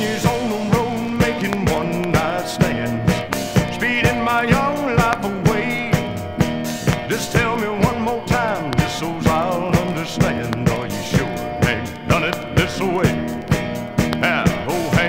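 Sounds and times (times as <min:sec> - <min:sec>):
drums keeping a steady beat: 0:00.0 - 0:15.0
rock band playing: 0:00.0 - 0:15.0
sliding lead guitar lines: 0:00.0 - 0:15.0.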